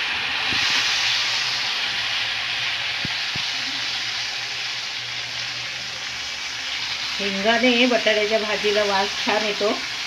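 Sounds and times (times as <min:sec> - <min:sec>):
potato slices sizzling in oil: 0:00.0 - 0:10.0.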